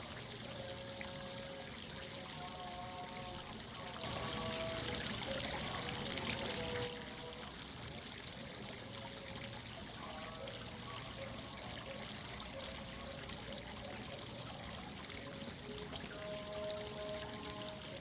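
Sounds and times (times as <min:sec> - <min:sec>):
trickling water: 0:00.0 - 0:18.0.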